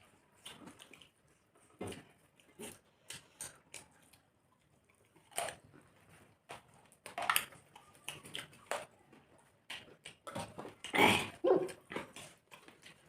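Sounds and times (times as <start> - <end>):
smacking and chewing: 0.0 - 13.0.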